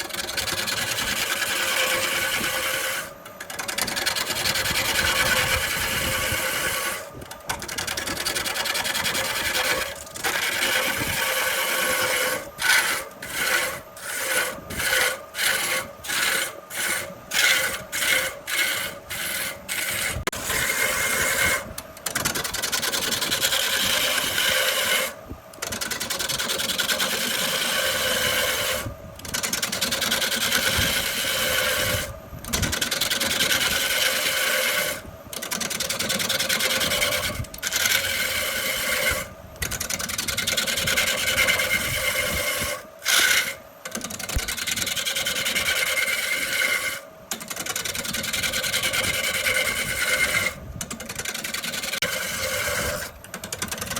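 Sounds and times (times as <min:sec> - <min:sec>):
lathe tool scraping wood: 0:00.0 - 0:53.9.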